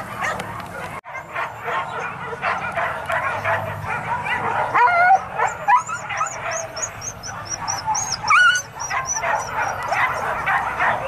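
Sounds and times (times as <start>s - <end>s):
hunting dogs barking and yelping: 0.0s - 11.0s.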